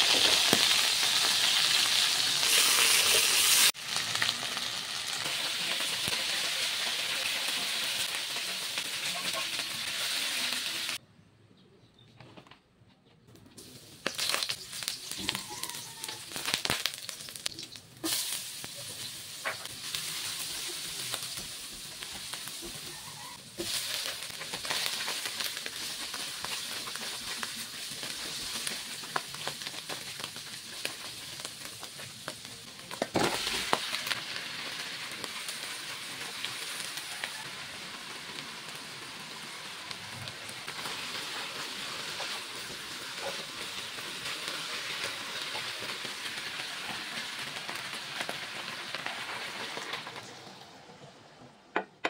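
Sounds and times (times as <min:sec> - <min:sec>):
food sizzling in hot oil: 0:00.0 - 0:11.0, 0:13.6 - 0:51.3.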